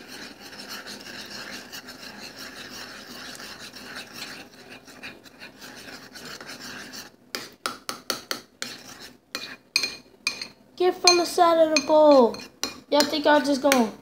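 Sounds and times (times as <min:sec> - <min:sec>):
spoon stirring batter: 0:00.0 - 0:14.0.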